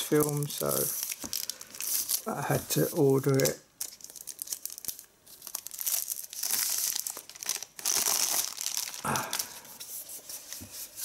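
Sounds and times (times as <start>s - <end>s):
plastic wrap crackling: 0.0s - 9.8s.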